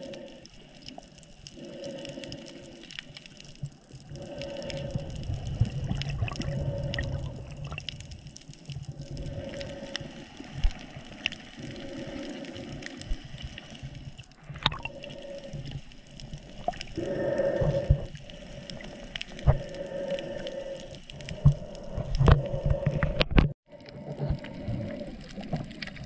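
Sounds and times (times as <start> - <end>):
hum: 0.0 - 26.0.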